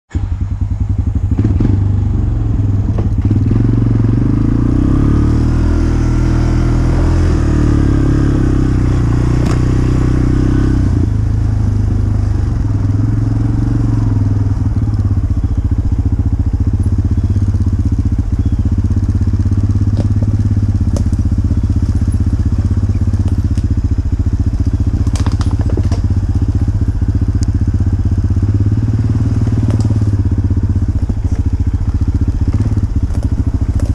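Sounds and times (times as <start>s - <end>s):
dirt bike engine running: 0.1s - 33.9s.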